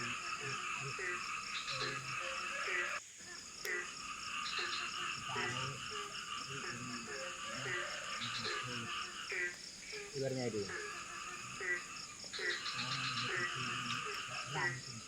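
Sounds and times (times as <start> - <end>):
dense insect buzz: 0.0 - 15.0
frogs croaking: 0.0 - 15.0.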